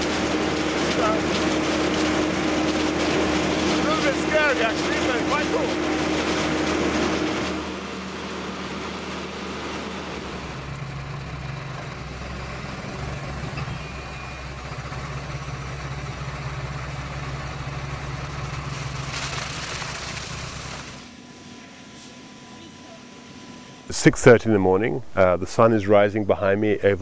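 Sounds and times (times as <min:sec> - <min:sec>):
harvester engine humming: 0:00.0 - 0:27.0.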